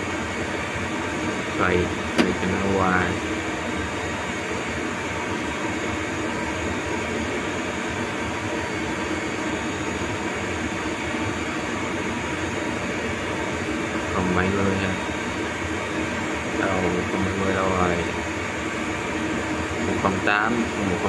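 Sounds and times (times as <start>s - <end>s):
cooling fans and machinery whirring: 0.0s - 21.0s.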